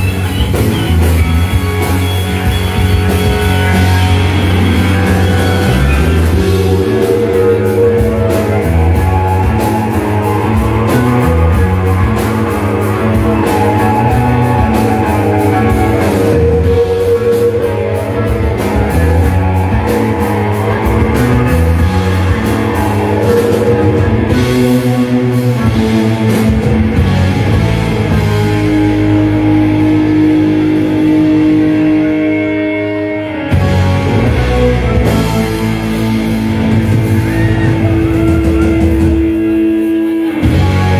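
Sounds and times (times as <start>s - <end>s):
drum kit: 0.0s - 40.9s
electric guitars: 0.0s - 40.9s.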